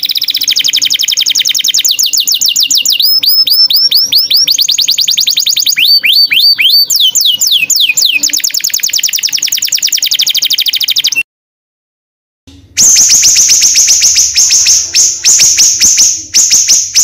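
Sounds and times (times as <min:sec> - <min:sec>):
songbird whistles and trill: 0:00.0 - 0:11.2, 0:12.8 - 0:17.0.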